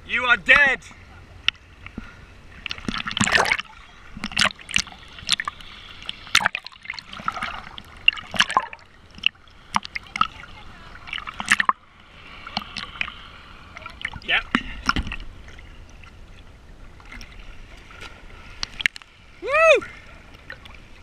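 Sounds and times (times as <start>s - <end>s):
waves slapping and gurgling: 0.0s - 21.0s
sea water lapping and splashing: 0.9s - 21.0s.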